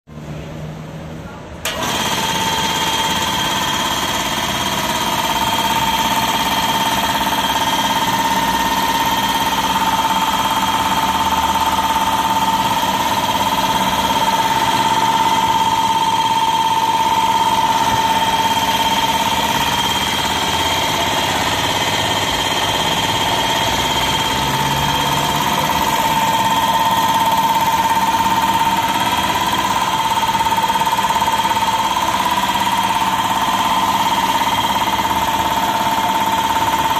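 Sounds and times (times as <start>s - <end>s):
air compressor running: 1.6s - 36.9s.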